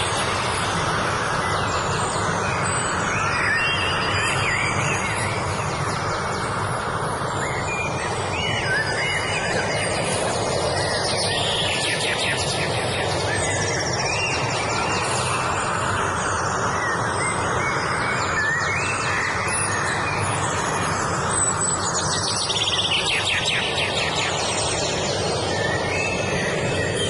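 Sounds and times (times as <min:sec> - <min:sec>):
birds singing and chirping: 0:00.0 - 0:27.0
rushing background noise: 0:00.0 - 0:27.0.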